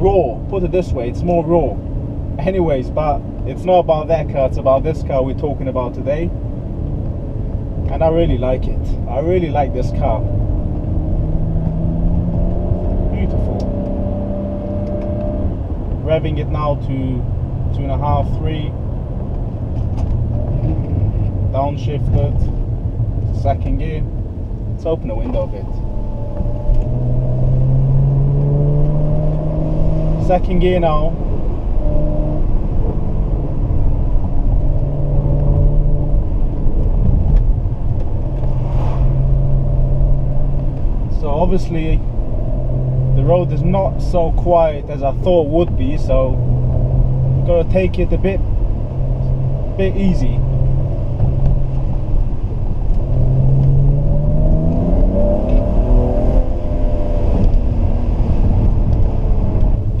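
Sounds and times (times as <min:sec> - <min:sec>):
car exhaust drone: 0:00.0 - 1:00.0
road noise: 0:00.0 - 1:00.0.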